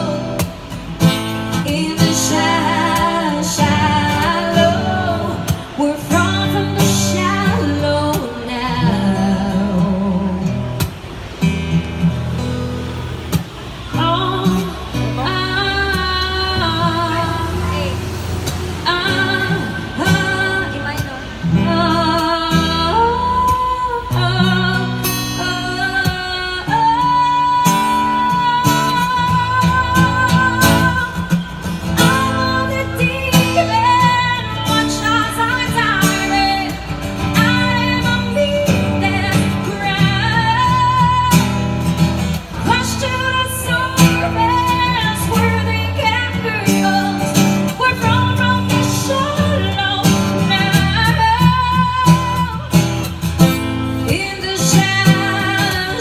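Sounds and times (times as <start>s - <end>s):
woman singing: 0.0s - 10.7s, 13.9s - 52.9s, 54.0s - 56.0s
acoustic guitar strumming: 0.0s - 56.0s.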